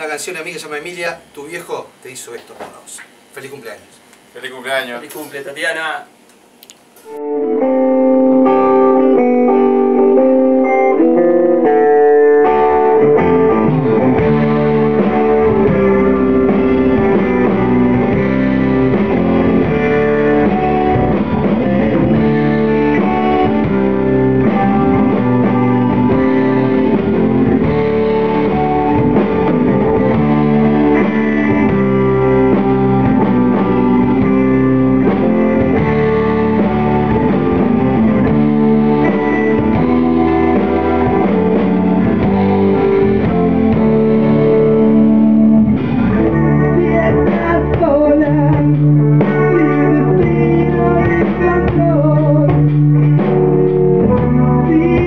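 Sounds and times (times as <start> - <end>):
rock band playing live: 7.0 - 55.0.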